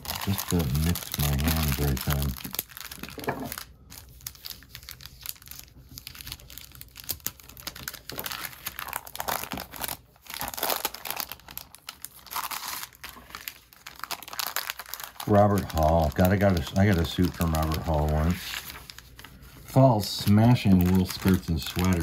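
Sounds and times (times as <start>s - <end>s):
plastic sleeve crinkling: 0.0s - 22.0s.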